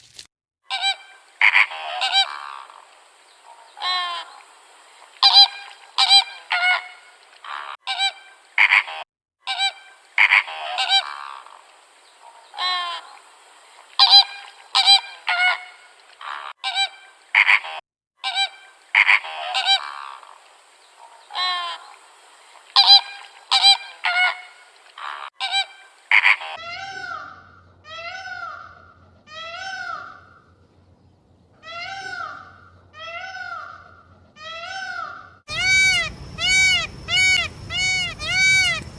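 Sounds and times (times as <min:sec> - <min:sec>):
geese honking: 0:00.7 - 0:11.6, 0:12.2 - 0:13.2, 0:13.8 - 0:20.4, 0:21.0 - 0:30.8, 0:31.6 - 0:38.9.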